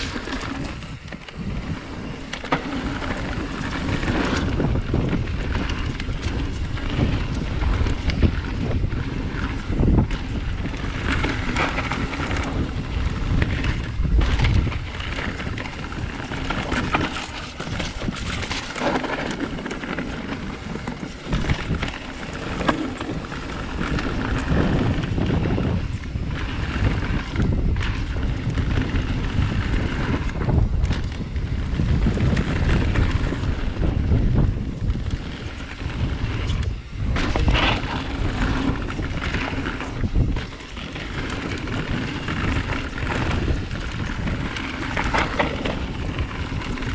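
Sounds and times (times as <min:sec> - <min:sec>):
bike knocks and rattles: 0:00.0 - 0:46.9
tyres rolling on dirt: 0:00.0 - 0:46.9
wind rushing over microphone: 0:00.0 - 0:46.9.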